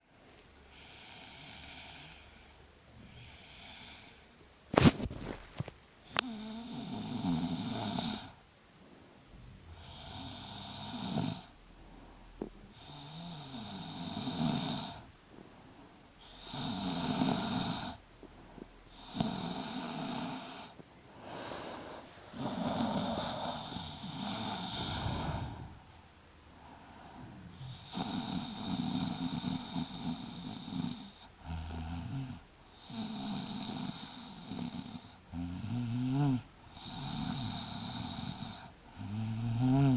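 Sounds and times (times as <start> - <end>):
woman snoring: 0.7 - 2.5, 3.1 - 4.2, 6.1 - 8.4, 9.7 - 11.6, 12.4 - 15.1, 16.2 - 26.0, 26.6 - 39.9.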